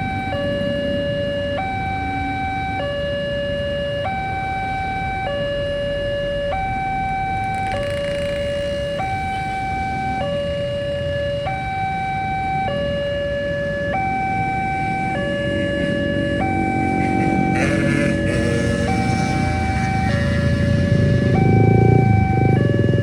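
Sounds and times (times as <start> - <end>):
two-tone warning siren: 0.0 - 23.0.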